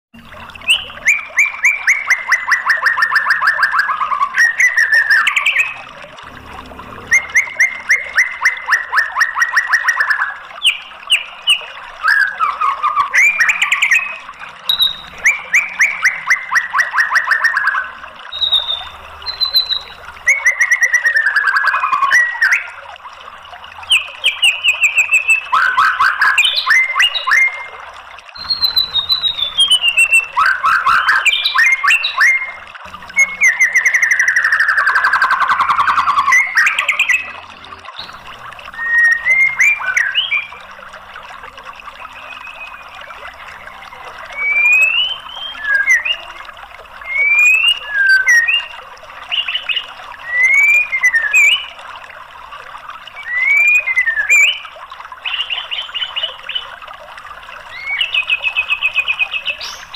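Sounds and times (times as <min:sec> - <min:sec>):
bird singing trills and whistles: 0:00.6 - 0:06.0, 0:06.9 - 0:22.8, 0:23.8 - 0:27.8, 0:28.4 - 0:40.8, 0:42.0 - 0:51.8, 0:53.1 - 0:56.7, 0:57.6 - 0:59.9.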